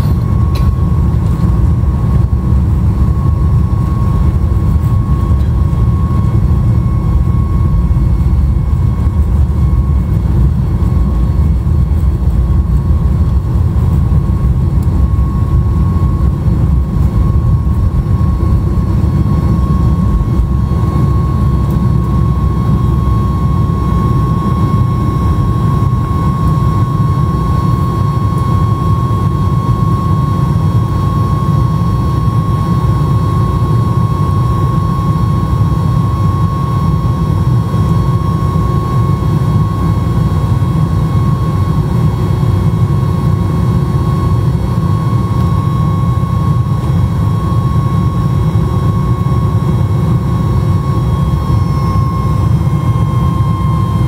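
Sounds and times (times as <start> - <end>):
jet engines at takeoff thrust: 0.0 - 54.0.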